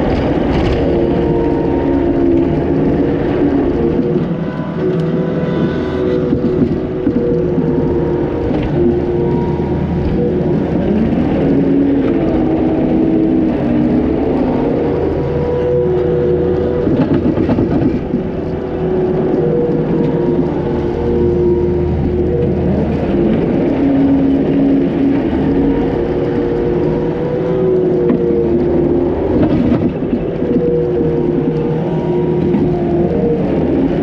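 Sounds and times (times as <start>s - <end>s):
hydraulic whine: 0.0s - 34.0s
loader engine hum: 0.0s - 34.0s.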